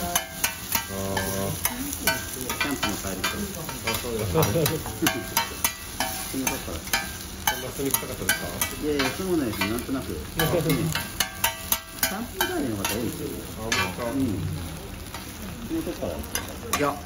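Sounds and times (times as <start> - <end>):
metal spatulas clacking on griddle: 0.0 - 14.0, 16.3 - 17.0
vegetables sizzling: 0.0 - 17.0.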